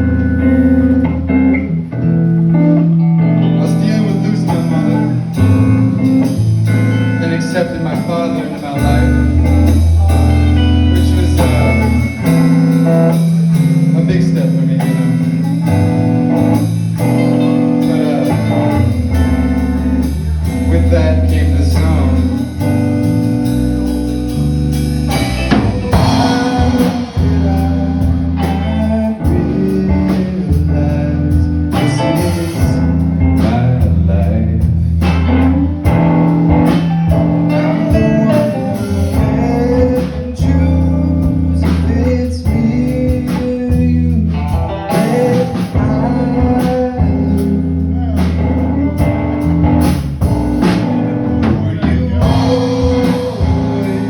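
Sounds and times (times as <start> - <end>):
bass notes: 0.0 - 54.0
drum kit: 0.0 - 54.0
guitar: 0.0 - 54.0
person singing: 2.8 - 54.0.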